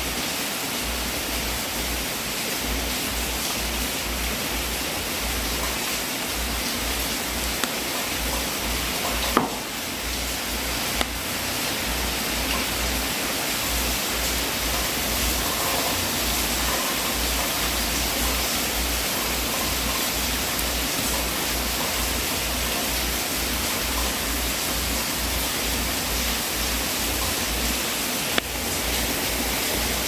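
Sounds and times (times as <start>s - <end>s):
wood fire hissing: 0.0s - 30.0s.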